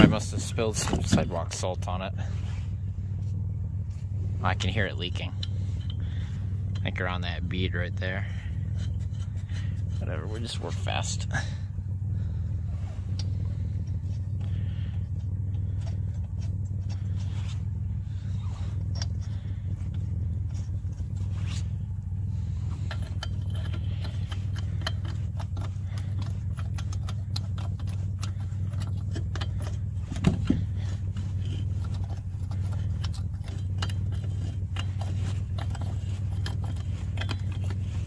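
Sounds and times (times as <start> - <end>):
steady low hum: 0.0 - 38.0
metallic clicks of lug nuts: 5.0 - 11.4, 12.5 - 38.0.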